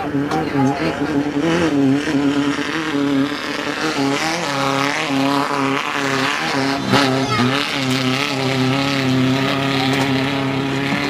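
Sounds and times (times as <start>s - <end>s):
race vehicle engine revving: 0.0s - 11.0s.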